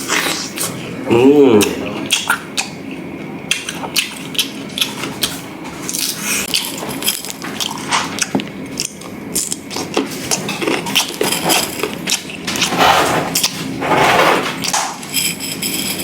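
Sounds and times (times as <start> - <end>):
crunching and chewing fruit: 0.0 - 13.8.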